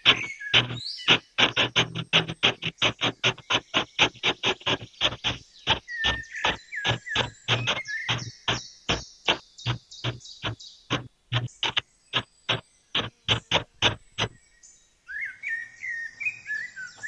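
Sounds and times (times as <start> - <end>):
hand hoe chopping into damp sand: 0.0 - 14.4.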